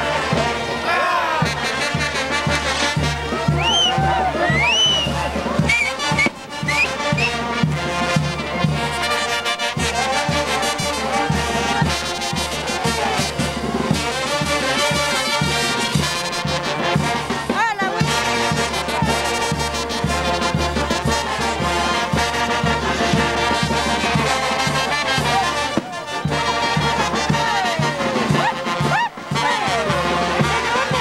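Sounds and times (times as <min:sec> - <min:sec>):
brass band playing: 0:00.0 - 0:31.0
drum beat: 0:00.1 - 0:31.0.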